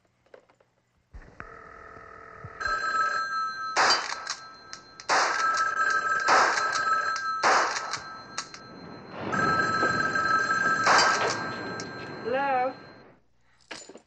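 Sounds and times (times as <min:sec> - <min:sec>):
telephone bell ringing: 0:01.5 - 0:13.1.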